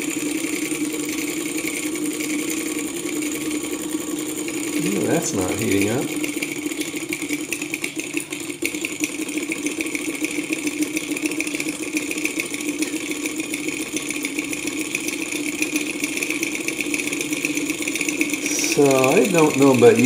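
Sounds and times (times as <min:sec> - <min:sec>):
stirling engine whirring: 0:01.8 - 0:11.9, 0:12.6 - 0:20.0.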